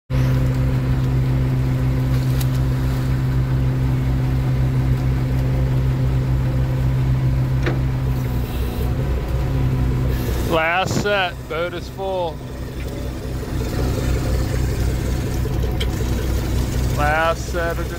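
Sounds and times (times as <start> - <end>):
boat engine drone: 0.1 - 17.9.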